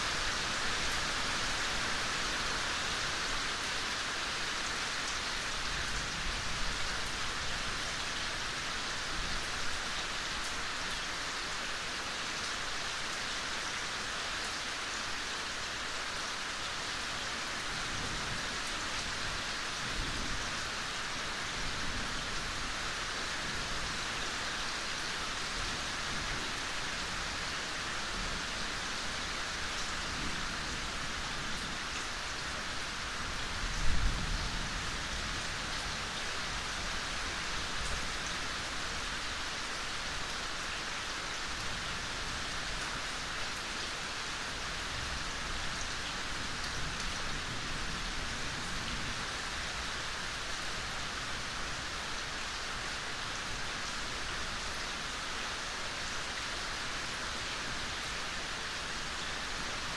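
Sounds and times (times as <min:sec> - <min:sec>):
soft rain falling: 0:00.0 - 0:59.9.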